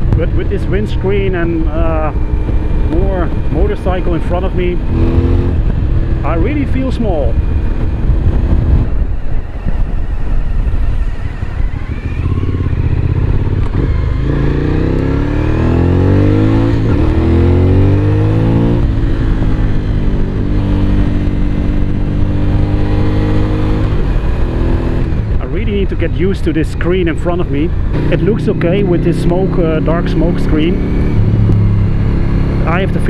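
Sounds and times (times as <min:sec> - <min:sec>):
motorcycle engine accelerating: 0:00.0 - 0:33.0
wind noise on microphone: 0:00.0 - 0:33.0.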